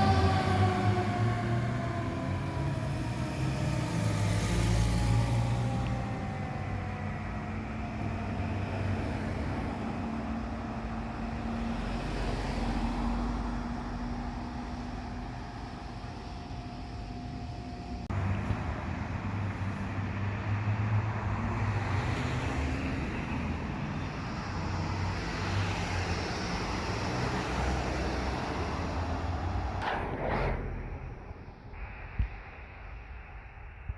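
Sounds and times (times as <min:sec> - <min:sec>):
diesel engines rumbling: 0:00.0 - 0:33.9
road traffic noise: 0:00.0 - 0:33.9.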